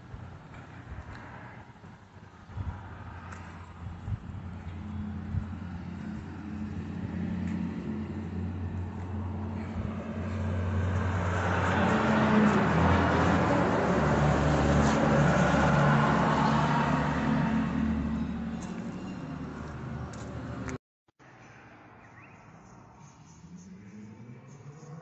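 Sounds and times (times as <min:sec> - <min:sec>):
vehicle engine humming: 0:00.0 - 0:20.8.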